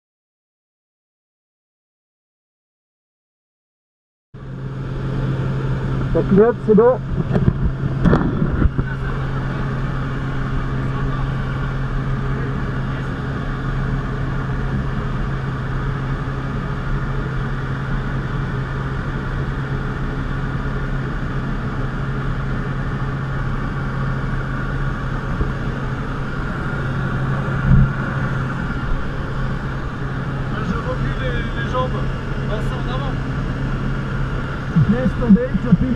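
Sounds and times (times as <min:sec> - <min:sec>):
plane engine droning: 0:04.4 - 0:35.9.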